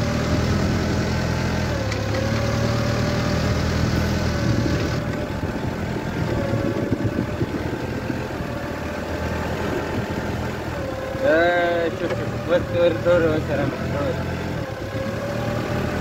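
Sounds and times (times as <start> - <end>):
rattling rumble: 0.0 - 16.0
work vehicle engine running: 0.0 - 16.0.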